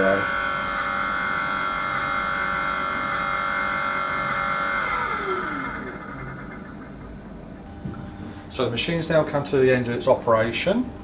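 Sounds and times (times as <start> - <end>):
milling machine motor whining: 0.0 - 11.0.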